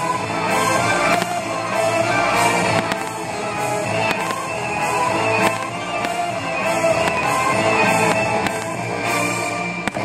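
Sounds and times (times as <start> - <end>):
loud music: 0.0 - 10.0
firework bangs: 0.8 - 10.0.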